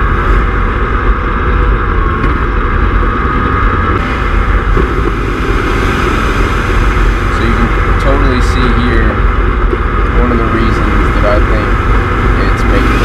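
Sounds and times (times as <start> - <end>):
intake air rushing: 0.0 - 13.0
turbocharged engine running: 0.0 - 13.0.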